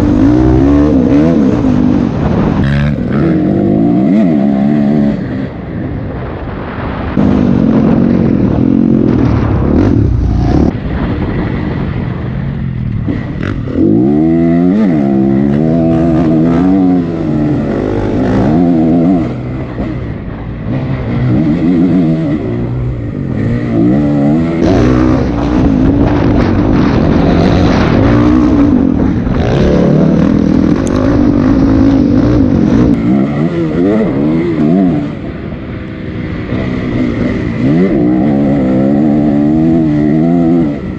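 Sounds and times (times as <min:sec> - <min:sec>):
dirt bike engine revving: 0:00.0 - 0:05.6, 0:07.2 - 0:10.8, 0:13.0 - 0:40.9.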